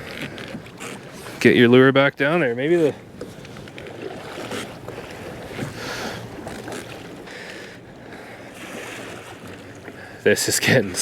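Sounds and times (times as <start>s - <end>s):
water lapping against kayak hull: 0.0s - 11.0s.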